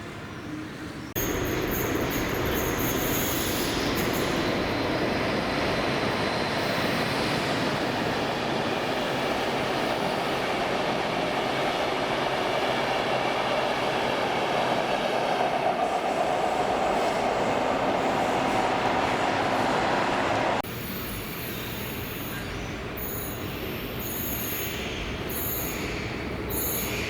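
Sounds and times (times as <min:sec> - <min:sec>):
train wheels rumbling on rail: 0:01.2 - 0:27.0.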